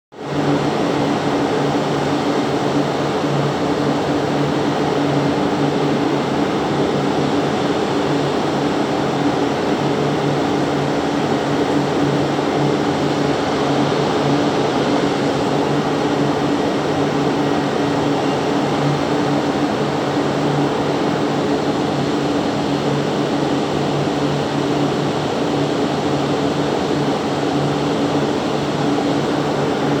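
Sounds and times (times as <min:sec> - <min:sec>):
fans humming and rushing air: 0:00.1 - 0:30.0.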